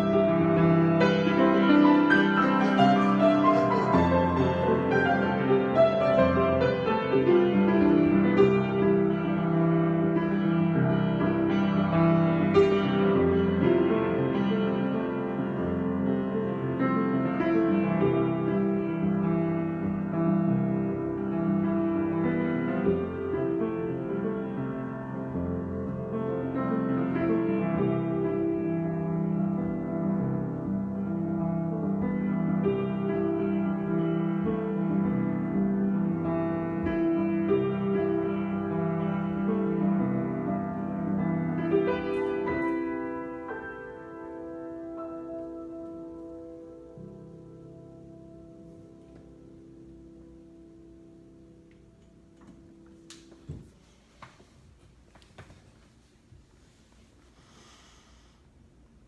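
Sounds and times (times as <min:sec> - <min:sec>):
piano improvisation: 0:00.0 - 0:59.0.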